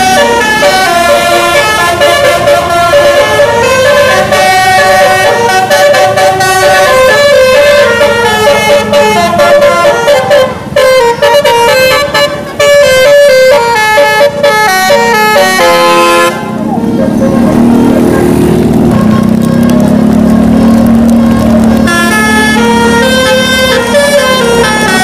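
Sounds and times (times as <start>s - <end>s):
musical bus air horn: 0.0s - 19.7s, 20.5s - 25.0s.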